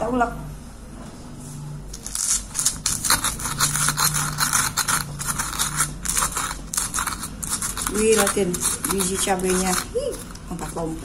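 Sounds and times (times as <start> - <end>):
pestle grinding in stone mortar: 1.9 - 11.0.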